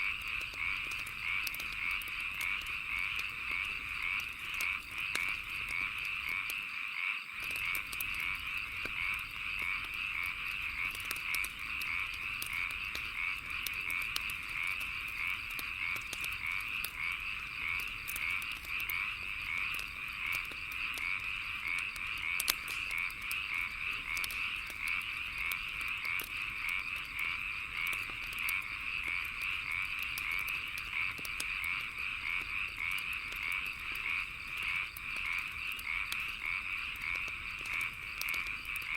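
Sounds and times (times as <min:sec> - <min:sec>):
wood fire crackling and popping: 0:00.0 - 0:06.7, 0:07.4 - 0:38.9
frogs croaking: 0:00.0 - 0:38.9.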